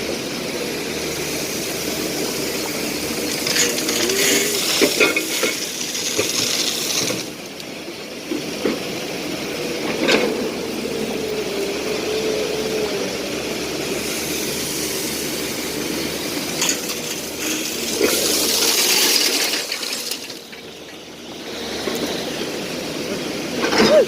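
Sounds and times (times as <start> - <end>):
excavator engine and hydraulics whine: 0.0 - 24.0.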